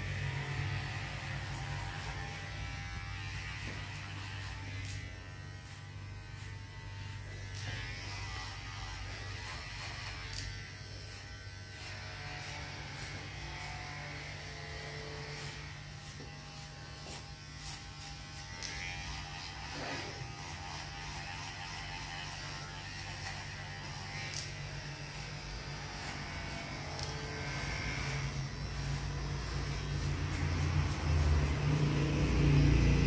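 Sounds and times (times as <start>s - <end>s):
hair clipper buzzing: 0.0s - 33.0s.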